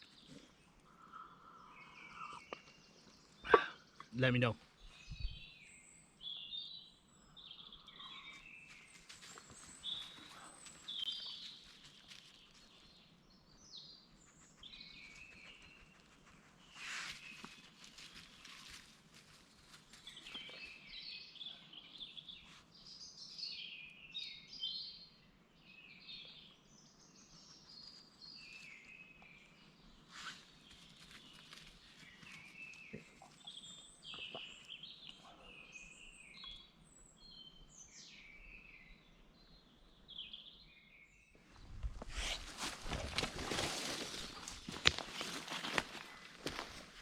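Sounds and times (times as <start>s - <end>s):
birds chirping: 0.0s - 17.6s, 19.5s - 47.0s.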